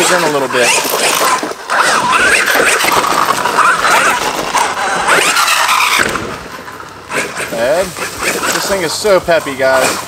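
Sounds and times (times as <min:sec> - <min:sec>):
tyres on dirt: 0:00.0 - 0:10.0.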